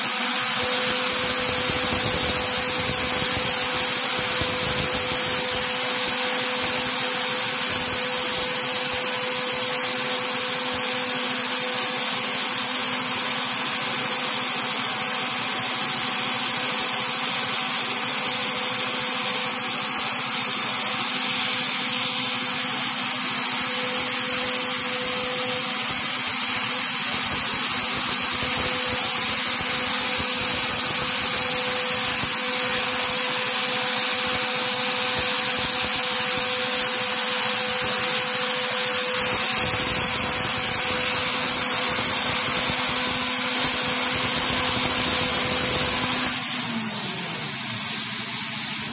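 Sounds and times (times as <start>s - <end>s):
air nozzles hissing: 0.0s - 10.8s, 20.0s - 48.9s
router spindle whine: 0.0s - 48.9s.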